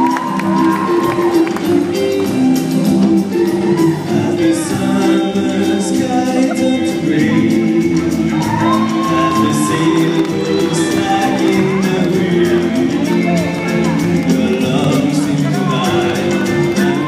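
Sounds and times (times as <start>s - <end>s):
live rock band playing: 0.0s - 17.0s
man singing: 0.0s - 17.0s.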